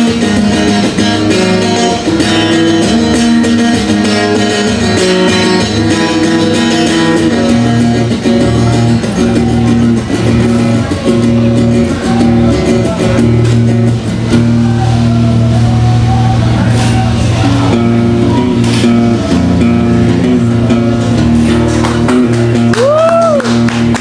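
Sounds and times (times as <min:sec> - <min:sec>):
amplified guitar chords: 0:00.0 - 0:24.0
low bass line: 0:00.0 - 0:24.0.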